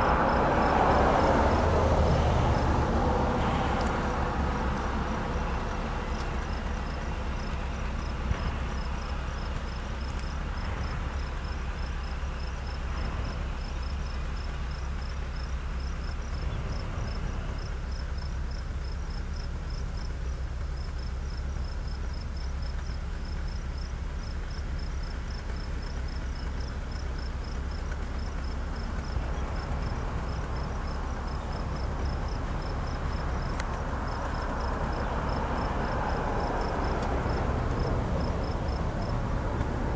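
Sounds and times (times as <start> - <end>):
insect chirping in pulses: 0.0 - 3.4, 4.1 - 39.9
steady low rumble: 0.0 - 39.9.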